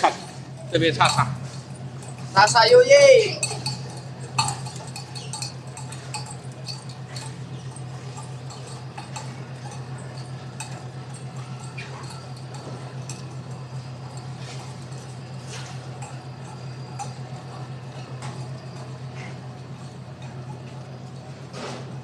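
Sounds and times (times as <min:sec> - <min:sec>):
low machinery hum: 0:00.0 - 0:22.0.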